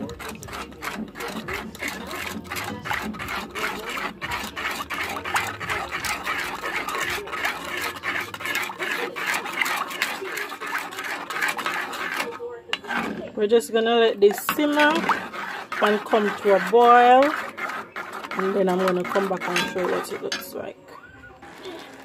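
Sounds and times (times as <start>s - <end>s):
spoon scraping a pot: 0.0s - 22.0s.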